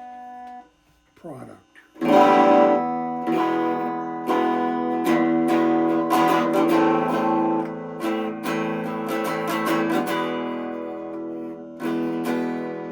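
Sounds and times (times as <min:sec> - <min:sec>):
electric guitar chords strummed: 0:02.0 - 0:12.9.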